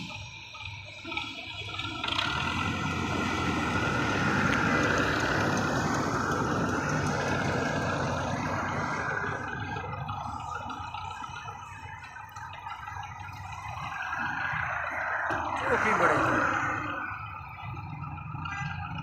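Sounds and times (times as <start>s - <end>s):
tractor engine under heavy load: 0.0s - 19.0s.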